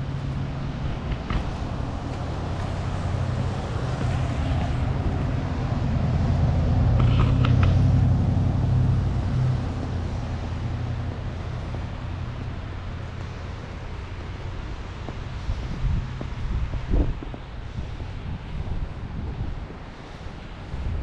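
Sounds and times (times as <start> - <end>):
road traffic rumble: 0.0 - 21.0
vehicle passing: 0.0 - 21.0.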